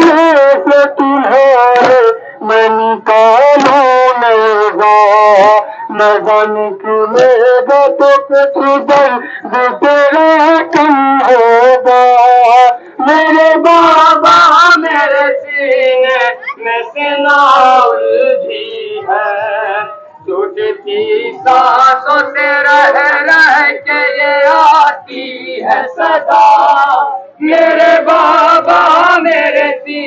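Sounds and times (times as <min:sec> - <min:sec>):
person singing lament through loudspeaker: 0:00.0 - 0:30.0.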